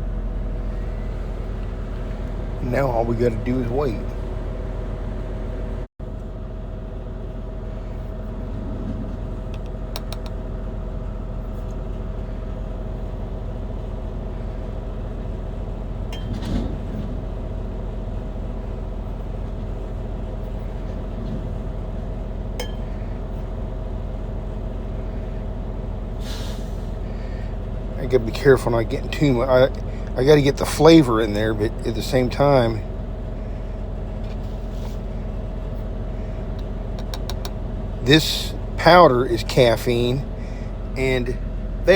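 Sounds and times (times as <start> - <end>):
idling truck engine hum: 0.0 - 41.9.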